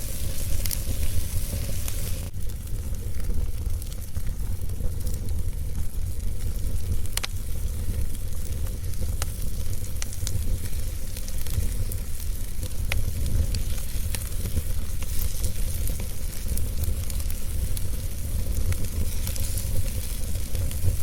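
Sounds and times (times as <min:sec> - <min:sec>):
fire crackling with sharp pops: 0:00.0 - 0:21.0
steady low rumble: 0:00.0 - 0:21.0.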